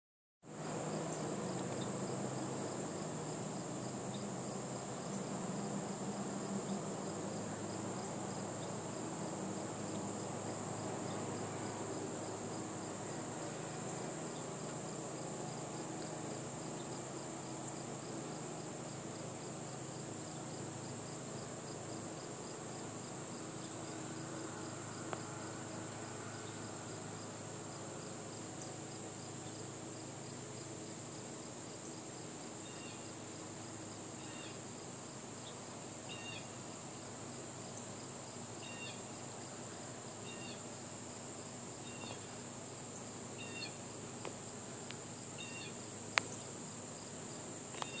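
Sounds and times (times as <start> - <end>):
insect chorus: 0.5 - 48.0.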